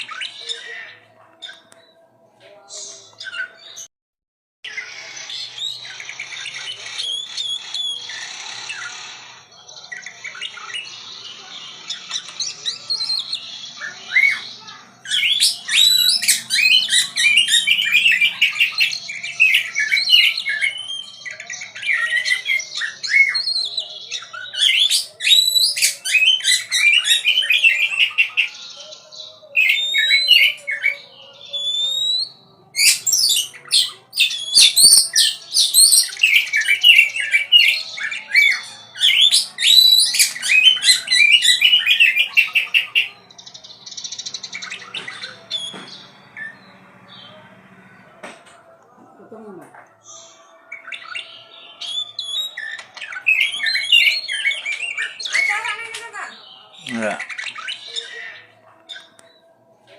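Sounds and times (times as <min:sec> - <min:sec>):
songbird singing: 0:09.6 - 0:59.5.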